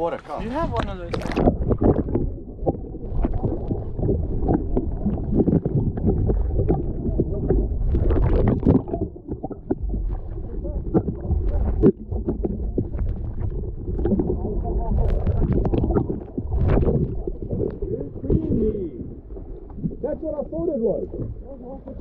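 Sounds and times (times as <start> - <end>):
wind and water rumbling: 0.0 - 22.0.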